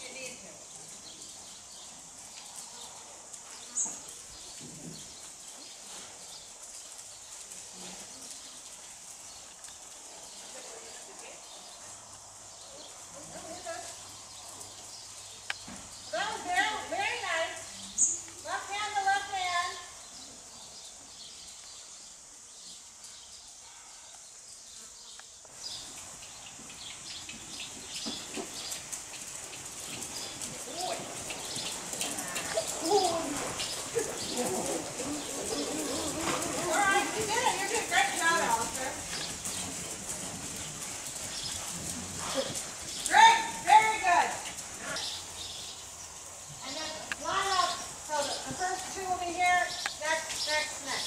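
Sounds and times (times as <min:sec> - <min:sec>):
insects buzzing: 0:00.0 - 0:51.0.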